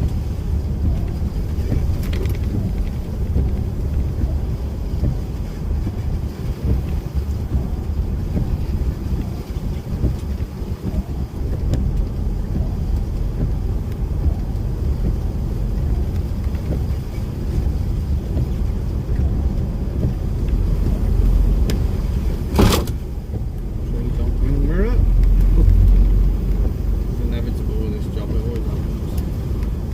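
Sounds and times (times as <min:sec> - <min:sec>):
lorry engine and road rumble: 0:00.0 - 0:29.9.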